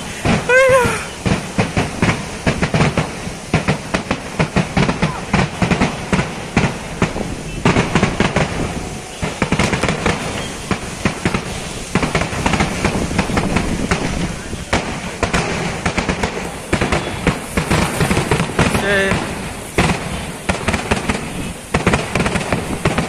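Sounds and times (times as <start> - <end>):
rapid firecracker bangs: 0.0 - 23.0.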